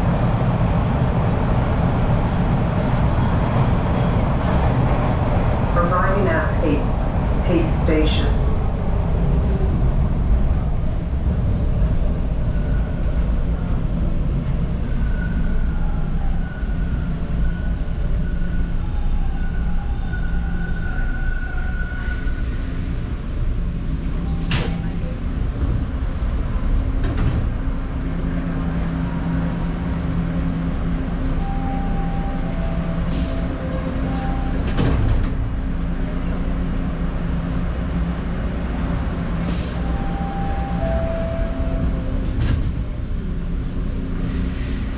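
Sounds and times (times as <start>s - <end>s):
subway train hum and rumble: 0.0s - 44.9s.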